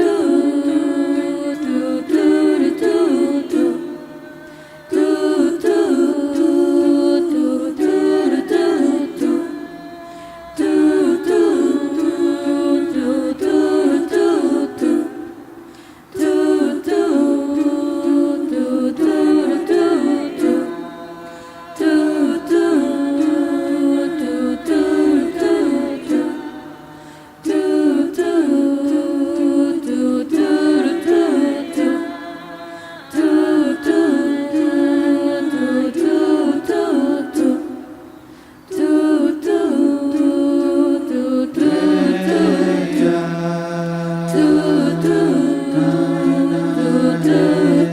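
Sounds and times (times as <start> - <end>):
a cappella group singing: 0.0 - 47.9.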